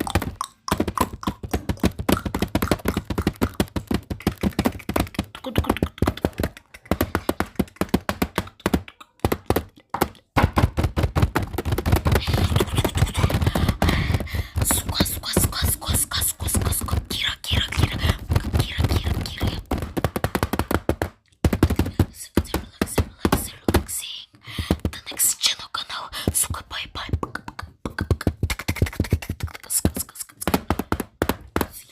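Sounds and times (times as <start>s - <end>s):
fingers tapping on camera: 0.0s - 31.9s.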